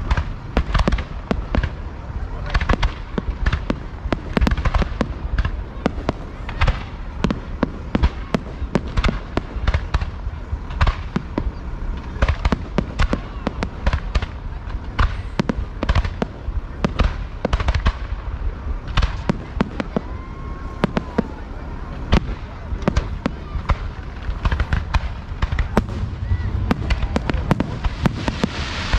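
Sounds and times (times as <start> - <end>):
fireworks bangs and crackles: 0.0 - 28.9
steady low rumble: 0.0 - 28.9.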